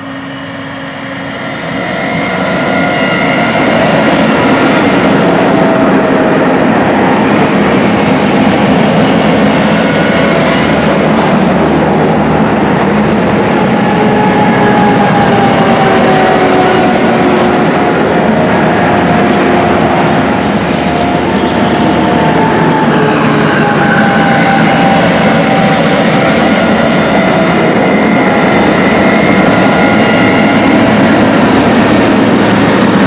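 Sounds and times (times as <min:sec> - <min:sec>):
combine harvester engine on road: 0:00.0 - 0:33.0.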